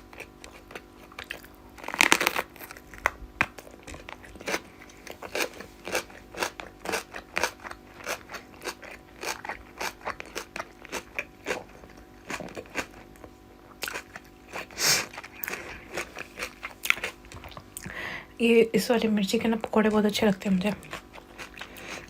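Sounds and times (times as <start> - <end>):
person chewing crunchy food: 0.0 - 18.0, 20.7 - 22.0.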